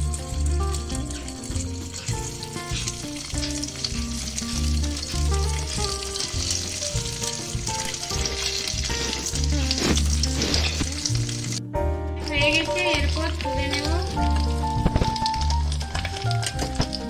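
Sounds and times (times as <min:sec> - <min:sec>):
background music with bass line: 0:00.0 - 0:17.0
paneer sizzling in hot oil: 0:00.0 - 0:17.0.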